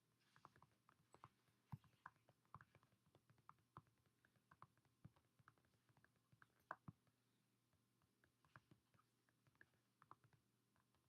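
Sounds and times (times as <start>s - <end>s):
finger taps typing on tablet: 0.0s - 11.0s.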